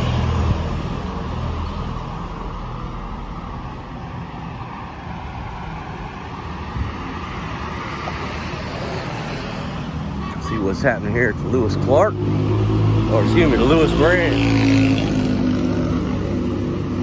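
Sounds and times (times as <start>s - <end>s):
steady traffic hum: 0.0s - 17.0s
vehicle engine rumble: 0.0s - 17.0s.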